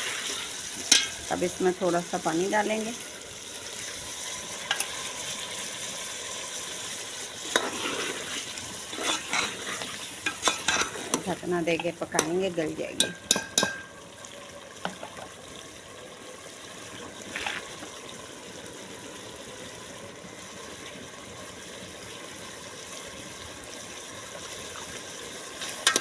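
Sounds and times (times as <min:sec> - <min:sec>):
curry bubbling in a pot: 0:00.0 - 0:26.0.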